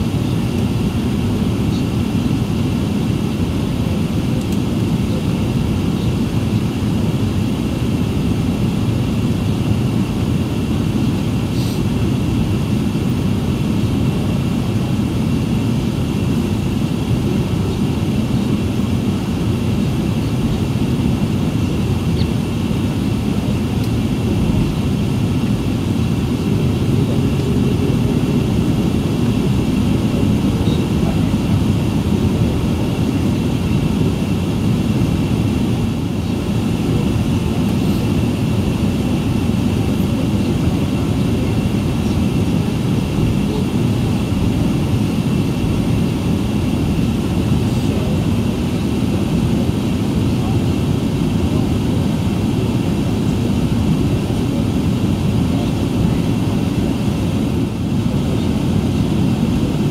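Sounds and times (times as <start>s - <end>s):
aircraft cabin low rumble: 0.0s - 59.9s.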